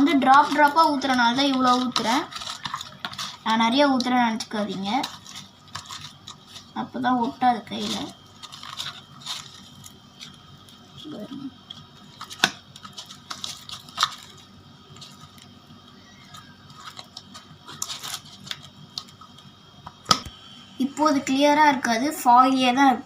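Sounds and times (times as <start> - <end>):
slime squishing in hands: 0.0 - 20.2.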